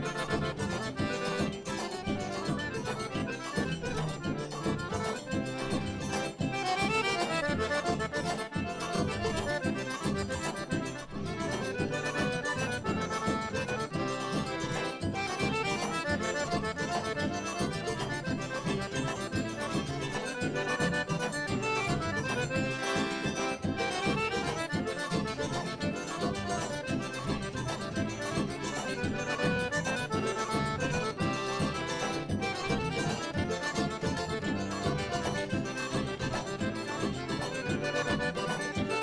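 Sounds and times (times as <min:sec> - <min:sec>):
accordion-led traditional music: 0:00.0 - 0:39.0.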